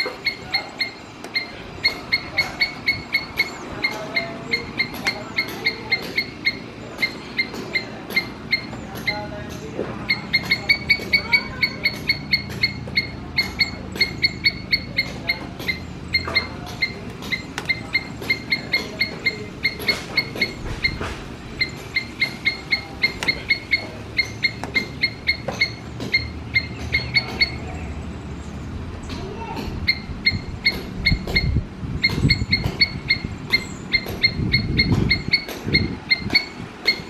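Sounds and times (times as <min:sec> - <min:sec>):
squirrel alarm call barks: 0:00.0 - 0:37.0.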